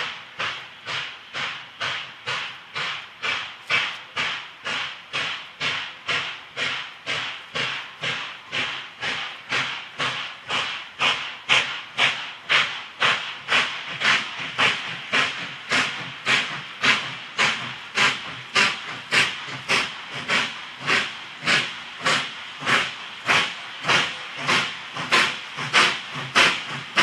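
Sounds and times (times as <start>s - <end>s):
steam locomotive exhaust chuffs: 0.0s - 27.0s.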